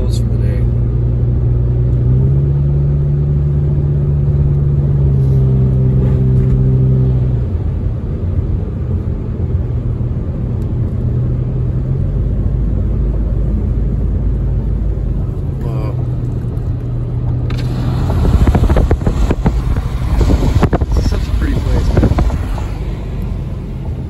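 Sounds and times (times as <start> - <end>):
car road rumble: 0.0 - 24.0
engine drone: 0.0 - 24.0.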